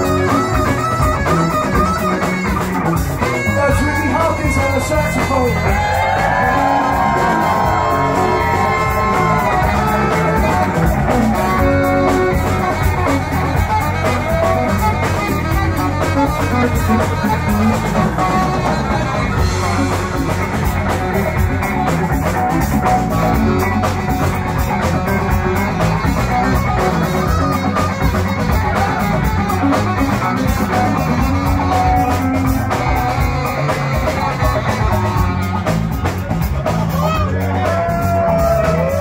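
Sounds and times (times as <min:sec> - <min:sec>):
bending melodic line: 0:00.0 - 0:39.0
live rock band playing: 0:00.0 - 0:39.0.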